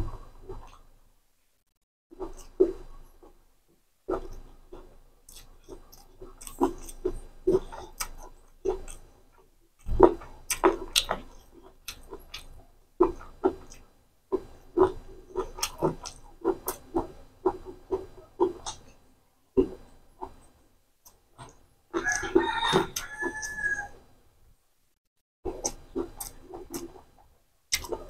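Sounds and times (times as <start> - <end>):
wet chewing and lip-smacking: 2.2 - 3.4, 4.1 - 24.0, 25.5 - 28.0.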